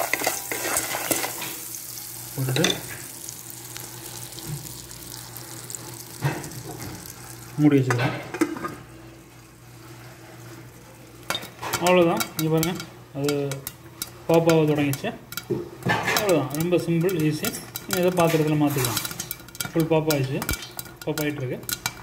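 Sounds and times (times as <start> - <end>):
popcorn popping: 0.0 - 8.7, 11.0 - 22.0
popcorn sizzling in butter: 0.0 - 22.0.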